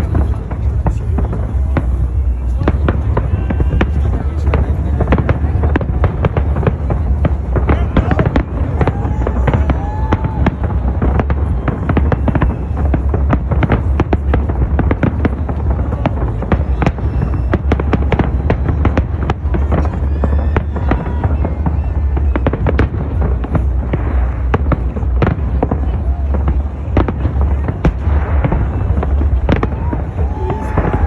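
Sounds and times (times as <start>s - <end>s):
fireworks bangs and crackles: 0.0s - 31.0s
low rumble: 0.0s - 31.0s.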